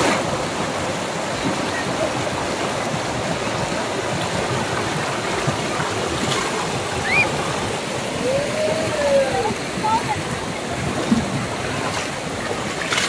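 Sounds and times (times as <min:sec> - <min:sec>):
fast-flowing river rushing: 0:00.0 - 0:13.0.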